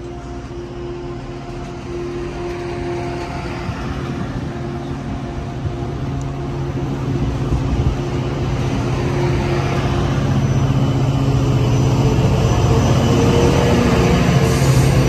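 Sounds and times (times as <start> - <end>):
diesel locomotive drone: 0.0 - 15.0
train rolling past: 0.0 - 15.0.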